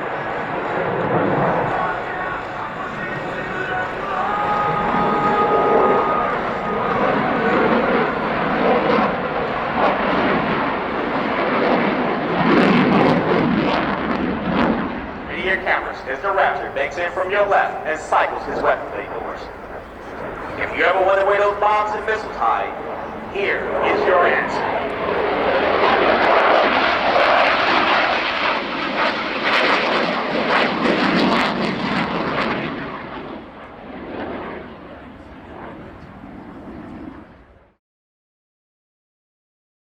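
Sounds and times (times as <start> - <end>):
jet engine roar: 0.0 - 37.6.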